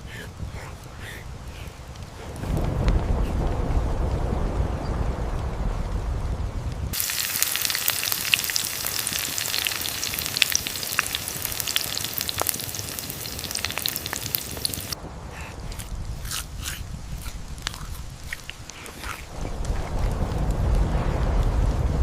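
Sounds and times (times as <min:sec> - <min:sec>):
sizzling hiss with crackles: 0:00.0 - 0:22.0.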